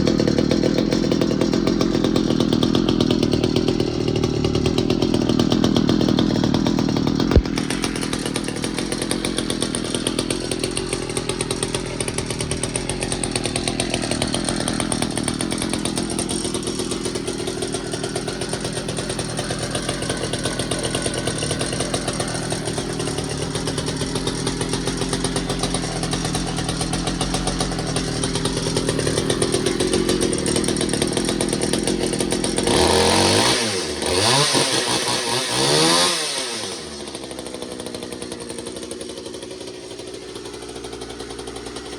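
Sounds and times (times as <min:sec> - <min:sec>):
chainsaw engine running: 0:00.0 - 0:41.9.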